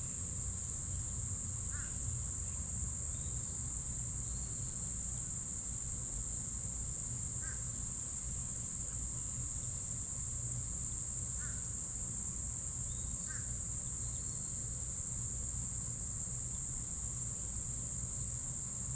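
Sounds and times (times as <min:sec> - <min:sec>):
insects trilling: 0:00.0 - 0:18.9.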